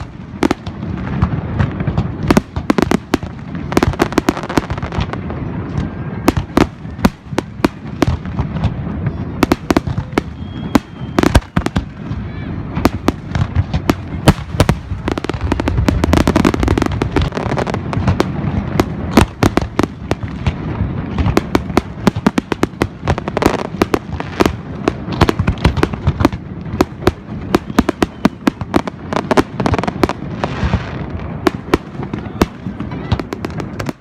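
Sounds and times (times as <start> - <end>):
fireworks crackling pops: 0.0 - 34.0.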